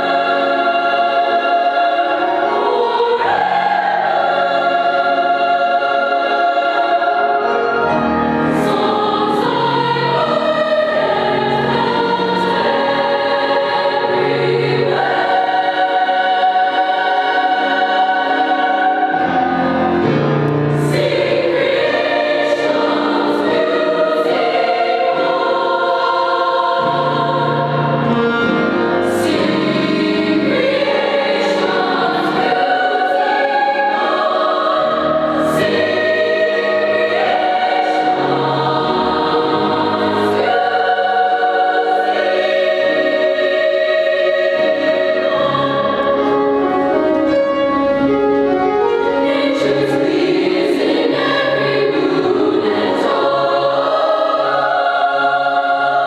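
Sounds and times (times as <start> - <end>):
girls' choir singing: 0.0 - 47.4, 49.0 - 56.0.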